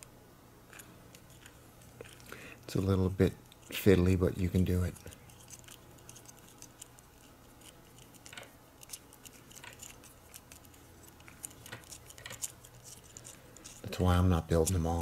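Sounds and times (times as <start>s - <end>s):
low steady hum: 0.0s - 15.0s
small parts clicking: 0.7s - 3.8s, 4.6s - 15.0s.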